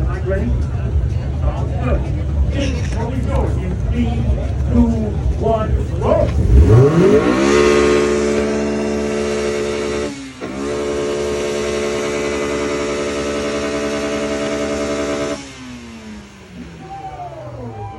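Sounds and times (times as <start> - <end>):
car engine revving: 1.9 - 17.9.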